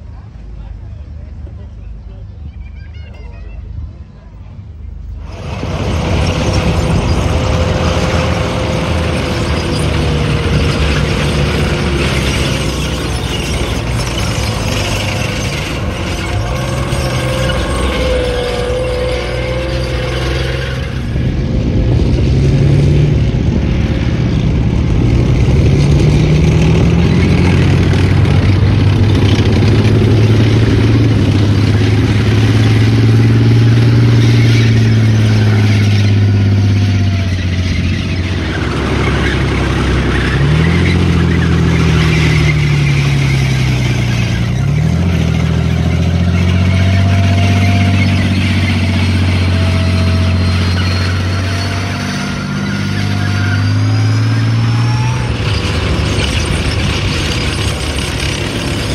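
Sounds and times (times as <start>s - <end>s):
tank tracks rattling: 5.0s - 22.2s, 23.7s - 58.9s
tank diesel engine revving: 5.0s - 58.9s.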